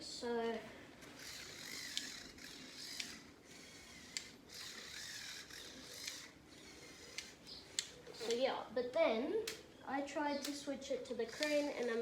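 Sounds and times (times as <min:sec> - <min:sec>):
electric motor and gears whirring: 0:00.5 - 0:09.6, 0:10.3 - 0:12.0.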